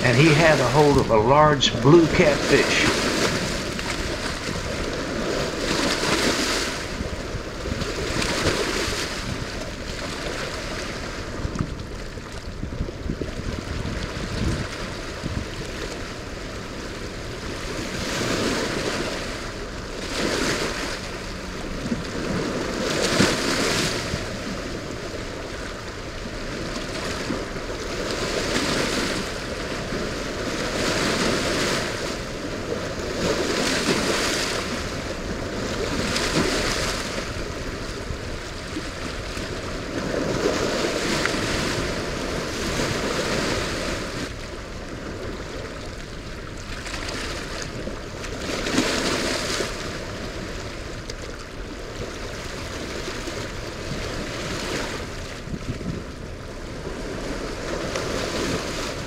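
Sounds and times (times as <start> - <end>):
heavy water rushing past rocks: 0.0 - 59.0
wind on microphone: 0.0 - 59.0.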